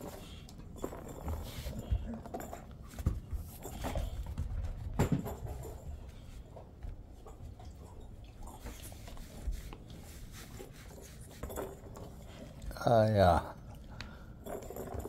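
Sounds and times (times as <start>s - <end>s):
dog paws and ball tapping on floor: 0.0s - 12.4s.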